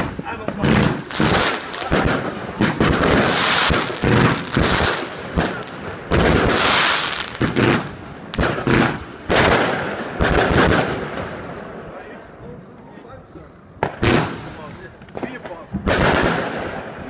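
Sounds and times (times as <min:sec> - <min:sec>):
firework bangs: 0:00.0 - 0:11.6, 0:13.8 - 0:17.0.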